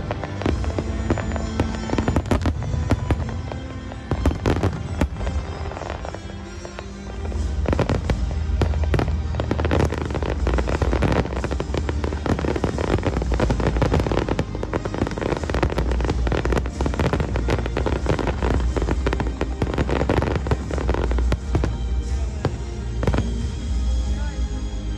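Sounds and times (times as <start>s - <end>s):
background music: 0.0s - 24.9s
fireworks bursting: 0.0s - 24.9s.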